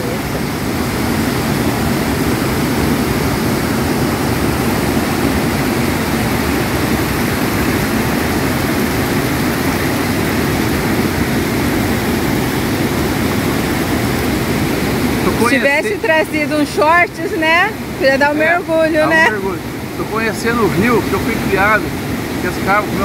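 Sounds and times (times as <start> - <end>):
water rushing over rocks: 0.0 - 23.0.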